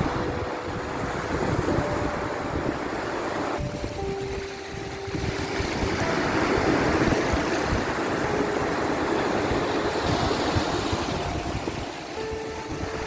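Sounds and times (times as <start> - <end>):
surf washing: 0.0 - 13.0
wind: 0.0 - 13.0.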